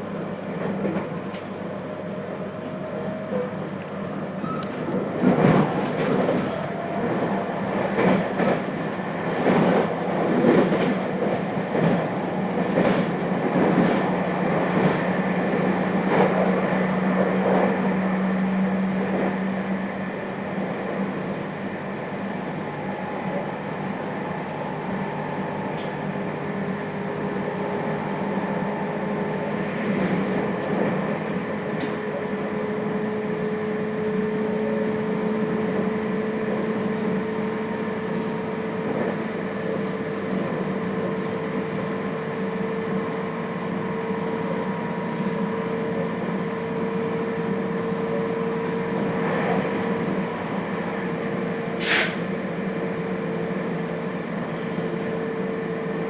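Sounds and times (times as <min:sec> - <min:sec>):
train hum and rumble: 0:00.0 - 0:56.0.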